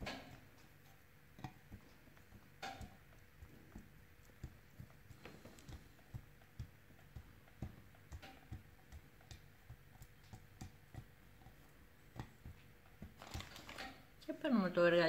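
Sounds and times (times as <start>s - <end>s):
fingertips patting clay: 0.0s - 14.2s.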